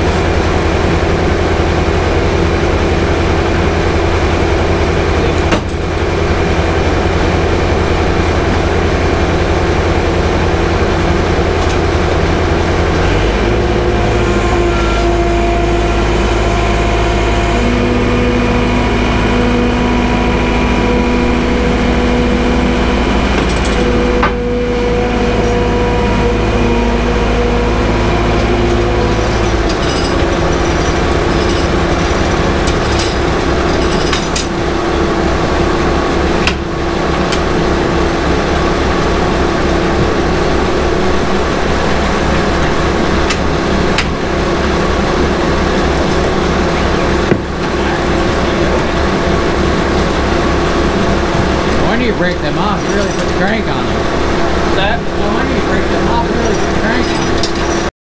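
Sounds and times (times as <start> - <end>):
loader engine whining: 0.0 - 57.9
sawmill machinery running: 0.0 - 57.9.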